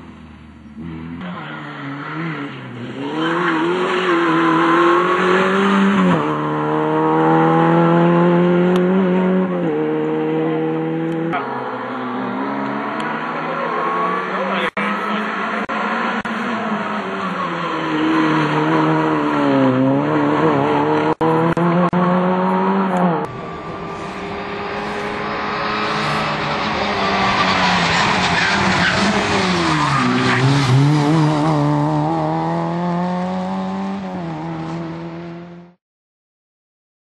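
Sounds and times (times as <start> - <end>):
rally car engine revving: 0.6 - 35.8.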